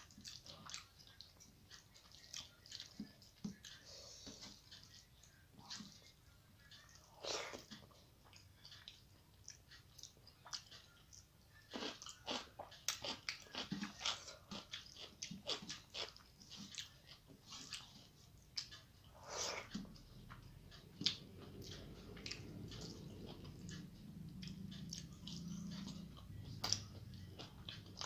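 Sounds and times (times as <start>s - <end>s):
person chewing with wet smacks: 0.0s - 28.0s.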